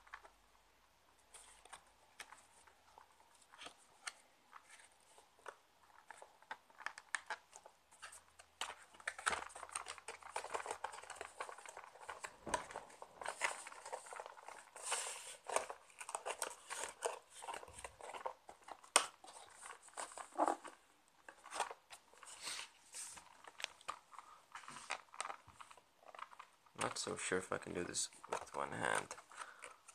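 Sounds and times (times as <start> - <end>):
cardboard packaging rustling and crinkling: 1.3 - 29.9.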